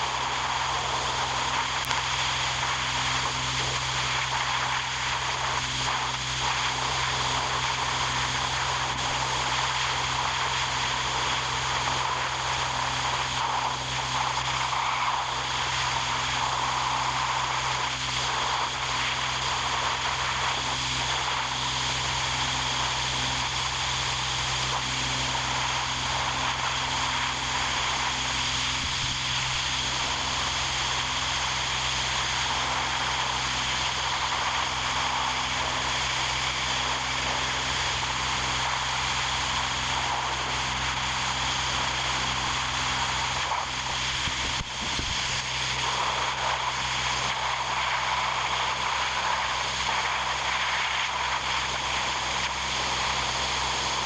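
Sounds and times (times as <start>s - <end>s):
machine drone humming: 0.0s - 54.0s.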